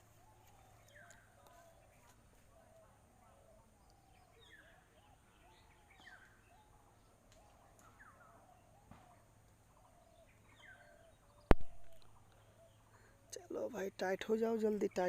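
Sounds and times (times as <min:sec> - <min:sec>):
faint bird chirps: 0:00.0 - 0:13.6.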